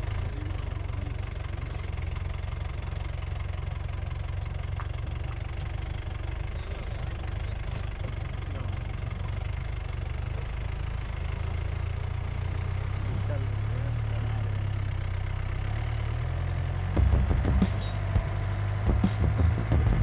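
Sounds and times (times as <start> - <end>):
vehicle engine drone: 0.0 - 20.0.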